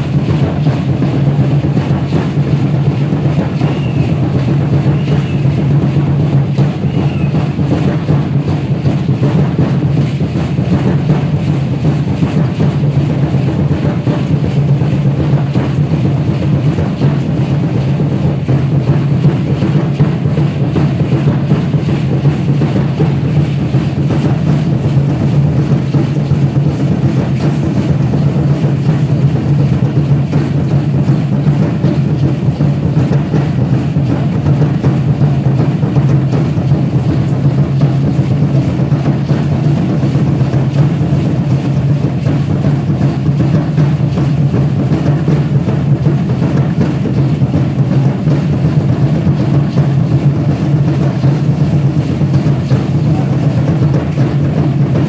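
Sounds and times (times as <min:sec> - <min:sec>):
large drum beaten fast: 0:00.0 - 0:55.0.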